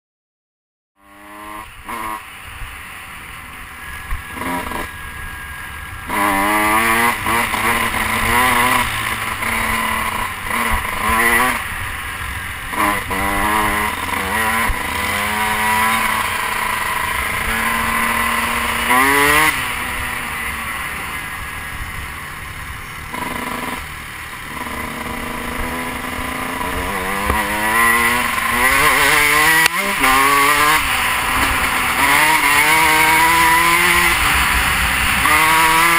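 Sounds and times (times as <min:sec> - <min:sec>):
dirt bike engine revving: 0:01.0 - 0:35.9
wind and road noise: 0:01.0 - 0:35.9.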